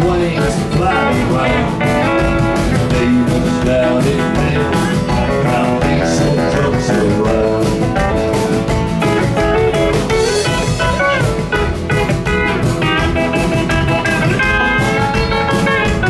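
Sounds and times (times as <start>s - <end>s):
guitars playing melody: 0.0s - 16.0s
steady drum beat: 0.0s - 16.0s.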